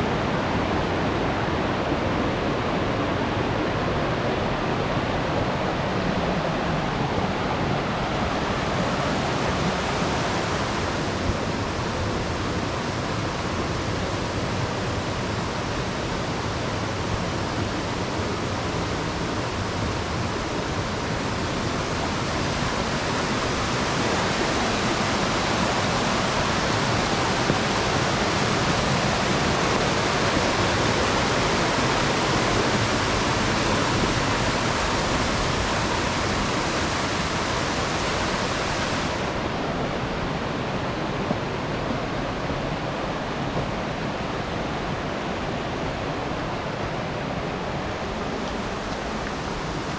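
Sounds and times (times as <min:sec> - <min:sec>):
waterfall and stream rushing: 0:00.0 - 0:49.9.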